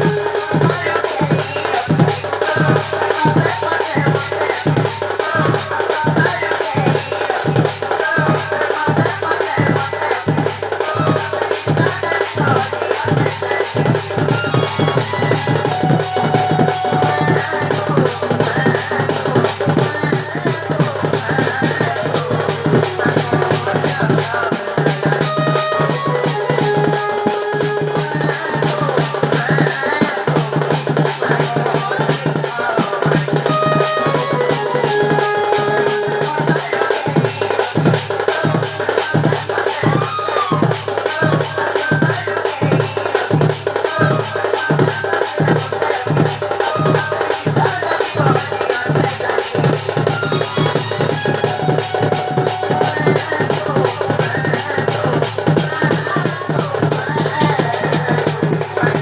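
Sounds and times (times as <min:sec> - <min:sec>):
folk music with fast drumming: 0:00.0 - 0:59.0
low drum steady beat: 0:00.0 - 0:59.0.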